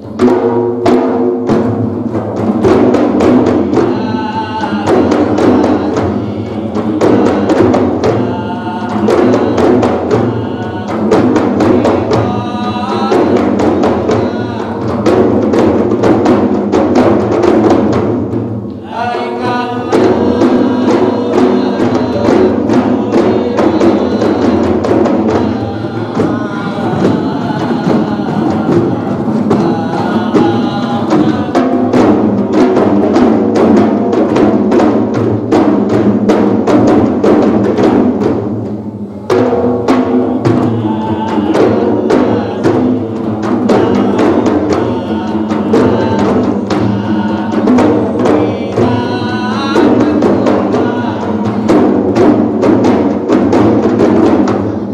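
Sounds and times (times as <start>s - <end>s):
frame drums beaten by hand: 0.0s - 54.9s
men chanting: 2.5s - 18.1s, 18.7s - 38.5s, 39.1s - 54.9s.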